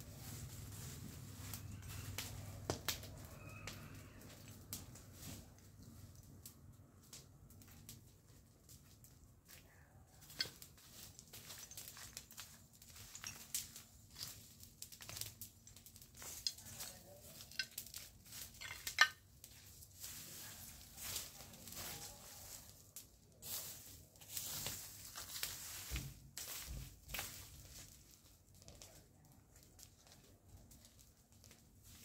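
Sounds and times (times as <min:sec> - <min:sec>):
garden tool raking dry soil and leaves: 0:00.0 - 0:06.4, 0:10.2 - 0:32.0.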